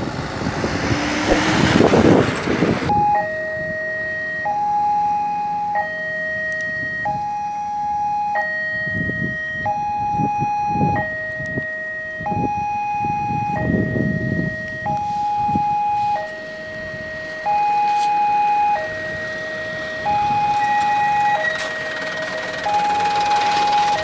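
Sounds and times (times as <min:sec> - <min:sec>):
level crossing two-tone alarm: 0:02.9 - 0:24.0.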